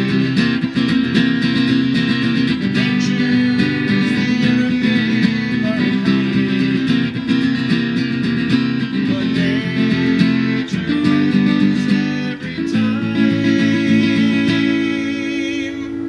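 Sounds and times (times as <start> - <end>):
man singing: 0.0 - 8.1, 8.7 - 16.0
acoustic guitar strumming: 0.0 - 16.0.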